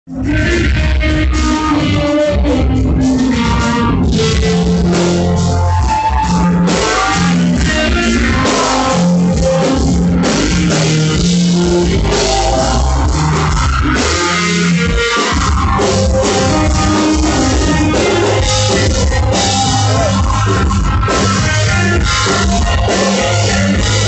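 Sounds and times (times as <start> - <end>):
drum kit: 0.1 - 24.0
electric guitar: 0.1 - 24.0
live rock band playing: 0.1 - 24.0.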